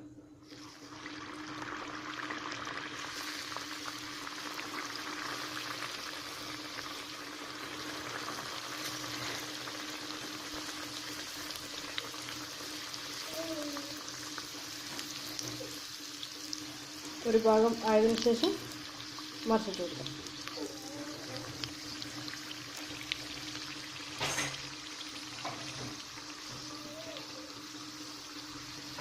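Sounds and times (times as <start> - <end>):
pastry sizzling in hot oil: 0.4 - 29.0.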